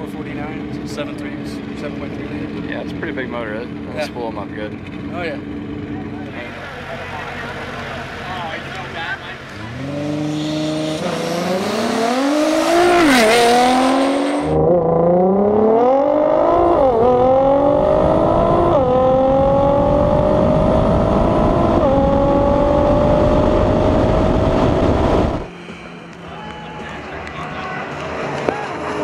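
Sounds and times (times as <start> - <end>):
car engine at full throttle: 0.0 - 29.0.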